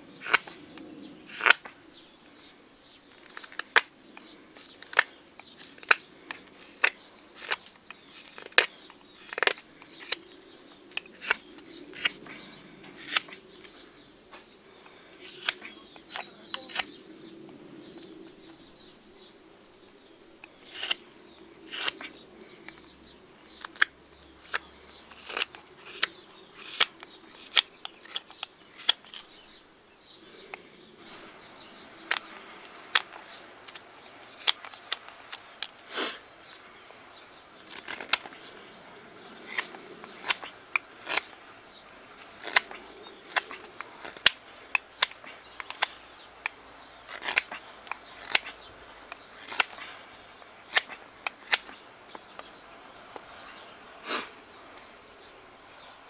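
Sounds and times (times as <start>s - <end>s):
faint birdsong: 0.0s - 56.0s
knife carving dry wood: 0.1s - 1.8s, 3.0s - 17.1s, 20.4s - 22.9s, 23.5s - 29.6s, 30.3s - 36.2s, 37.6s - 53.3s.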